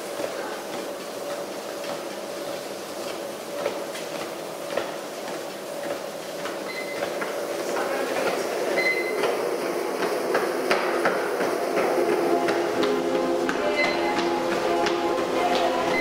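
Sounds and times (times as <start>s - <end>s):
footfalls thudding on treadmill: 0.0s - 16.0s
treadmill belt and motor: 0.0s - 16.0s.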